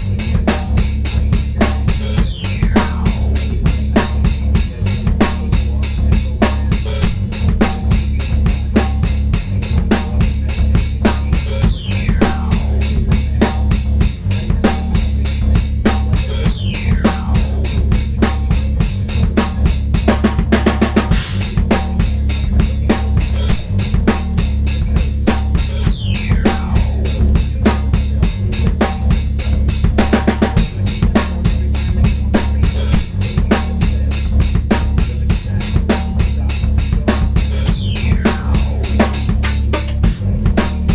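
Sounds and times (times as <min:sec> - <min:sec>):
drum kit groove: 0:00.0 - 0:40.9
sustained low bass line: 0:00.0 - 0:40.9.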